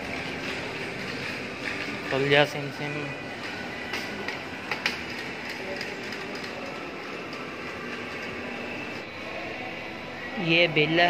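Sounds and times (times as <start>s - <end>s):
shopping trolley rolling: 0.0s - 9.0s.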